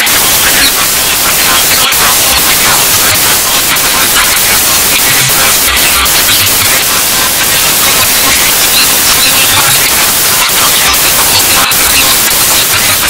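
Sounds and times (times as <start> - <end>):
distorted white-noise hiss: 0.0 - 13.0.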